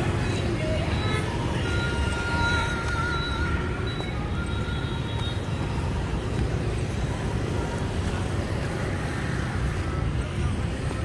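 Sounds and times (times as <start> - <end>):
cars passing: 0.0 - 11.0
motorbikes passing: 0.0 - 11.0.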